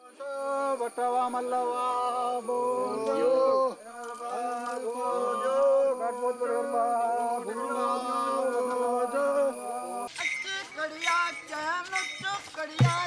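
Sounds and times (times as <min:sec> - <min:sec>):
men singing a chant: 0:00.0 - 0:13.0.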